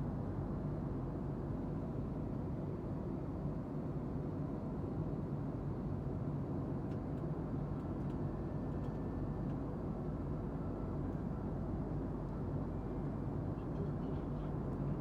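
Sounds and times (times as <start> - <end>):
airliner cabin engine and airflow rumble: 0.0 - 15.0.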